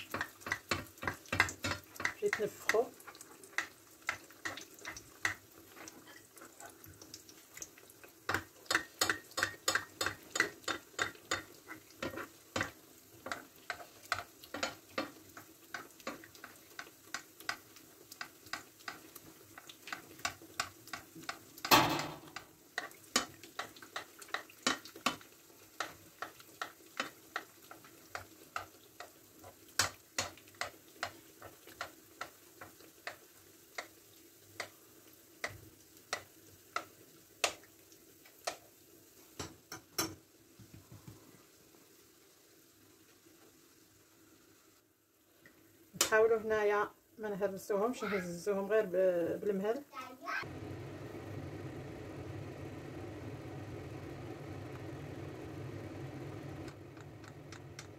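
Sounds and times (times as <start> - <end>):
hot oil crackling and popping: 0.0 - 47.2, 49.3 - 57.9.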